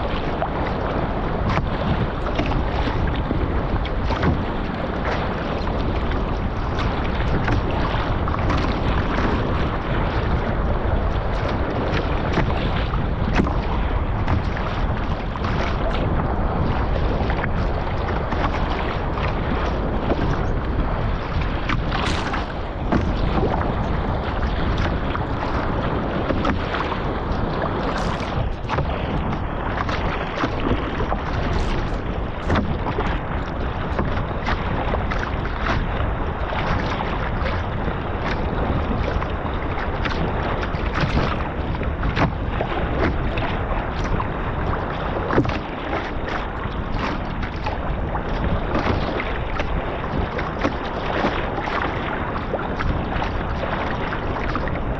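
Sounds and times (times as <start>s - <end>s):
choppy sea wash: 0.0s - 54.9s
paddle splashes: 0.0s - 54.9s
wind buffeting microphone: 0.0s - 54.9s.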